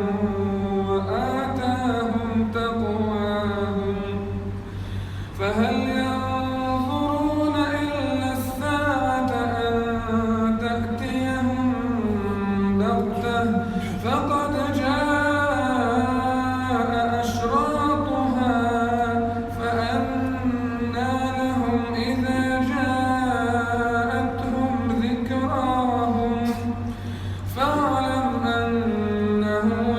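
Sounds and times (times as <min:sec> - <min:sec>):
man reciting melodically: 0:00.0 - 0:04.7, 0:05.3 - 0:29.9
steady low hum: 0:00.0 - 0:29.9.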